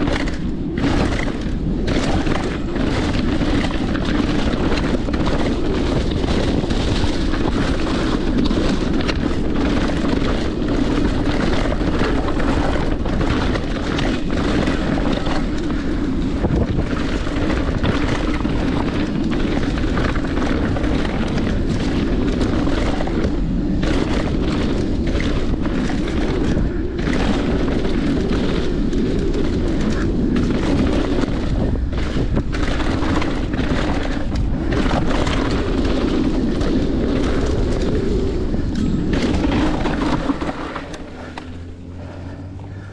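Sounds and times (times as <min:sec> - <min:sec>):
bike clattering over rocks: 0:00.0 - 0:41.6
bike tyre rumble: 0:00.0 - 0:42.9
wind buffeting microphone: 0:00.0 - 0:42.9.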